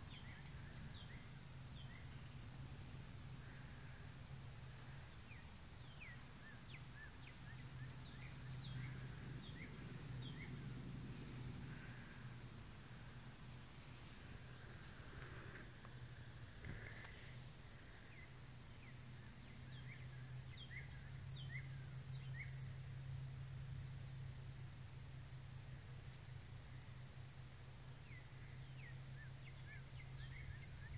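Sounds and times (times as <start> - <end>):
insects trilling: 0.0 - 30.9
low steady hum: 0.0 - 30.9.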